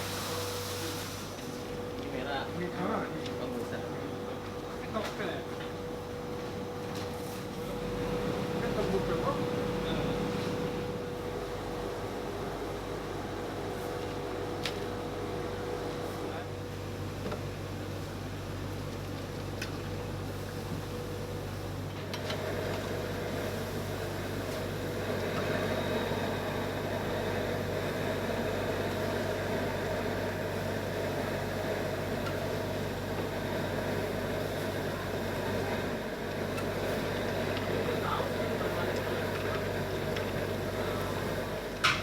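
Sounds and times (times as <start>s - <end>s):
factory machinery humming: 0.0s - 17.0s, 21.0s - 42.0s.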